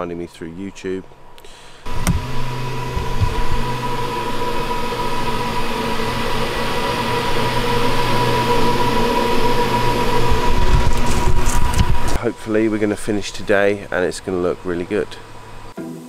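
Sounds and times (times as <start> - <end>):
floor sander motor drone: 1.8 - 15.8.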